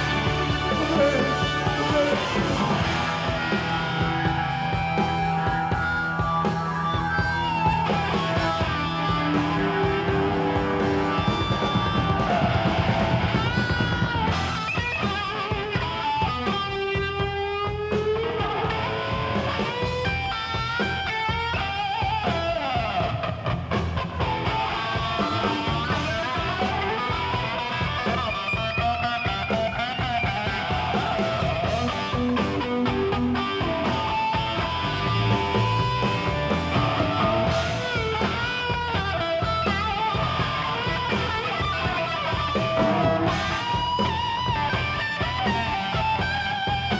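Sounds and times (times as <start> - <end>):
bass and drums: 0.0 - 46.9
electric guitar solo: 0.0 - 46.9.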